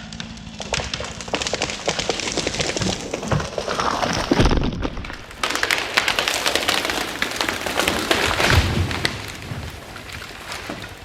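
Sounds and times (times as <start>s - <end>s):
wood cracking and snapping: 0.0s - 11.0s.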